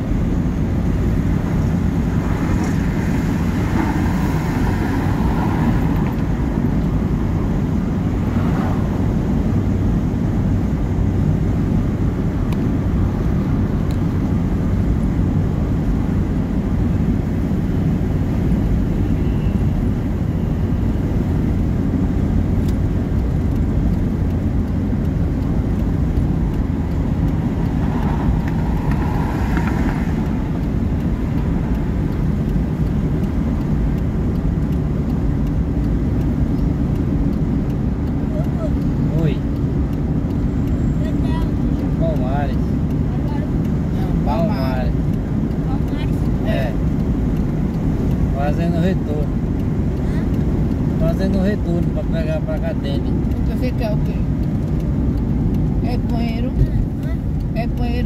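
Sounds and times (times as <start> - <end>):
car engine: 0.0 - 58.0
tyres on wet road: 0.0 - 58.0.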